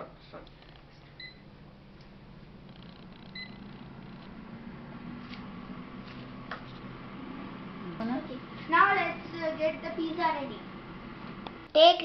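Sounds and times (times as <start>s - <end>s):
air fryer fan humming: 1.0s - 12.0s.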